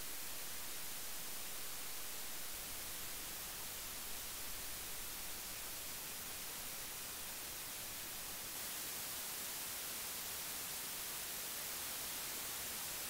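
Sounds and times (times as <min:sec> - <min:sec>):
microphone preamp hiss: 0:00.0 - 0:13.0.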